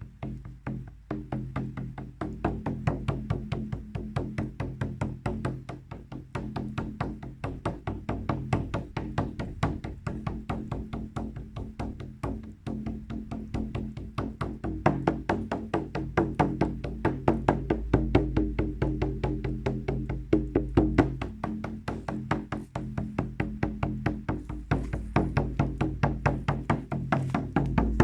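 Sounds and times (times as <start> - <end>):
drum beaten fast: 0.0 - 28.0
low steady hum: 0.0 - 28.0.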